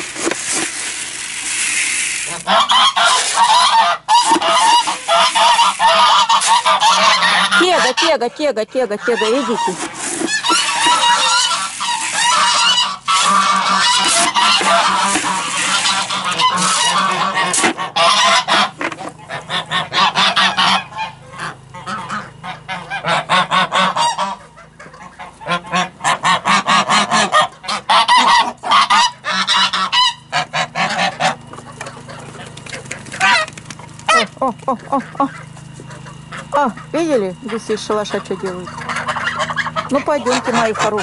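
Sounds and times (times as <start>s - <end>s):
geese honking: 1.2s - 41.0s.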